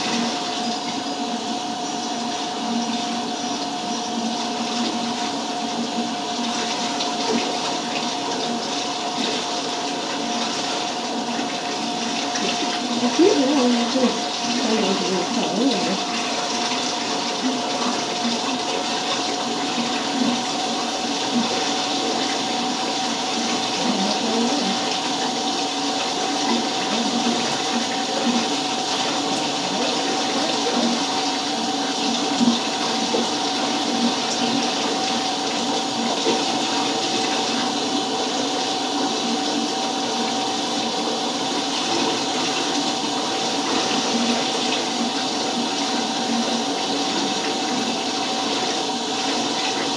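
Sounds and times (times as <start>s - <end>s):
water running from a tap: 0.0s - 49.9s.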